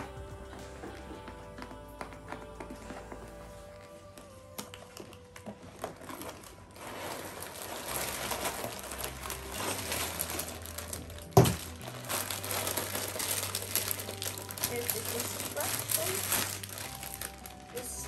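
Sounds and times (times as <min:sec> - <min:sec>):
plastic bags crinkling: 0:00.9 - 0:18.0.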